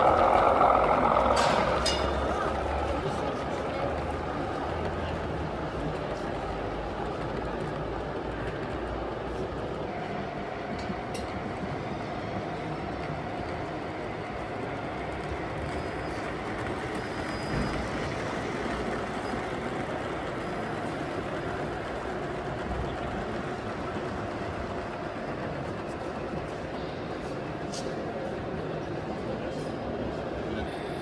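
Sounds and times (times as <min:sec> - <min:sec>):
model trains rumbling: 0:00.0 - 0:31.0.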